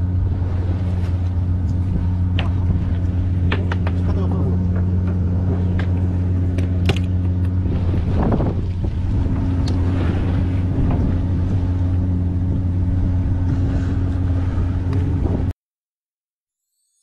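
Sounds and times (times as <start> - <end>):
boat engine humming: 0.0 - 15.5.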